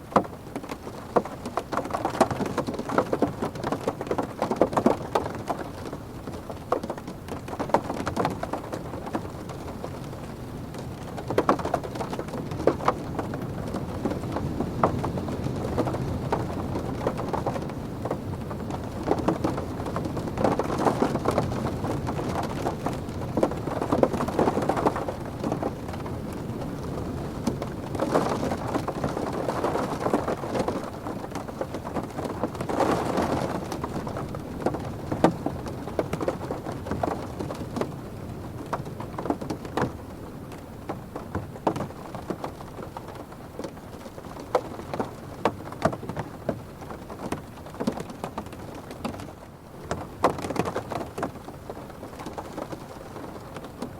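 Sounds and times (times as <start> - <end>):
heavy rain on car roof: 0.0 - 53.9.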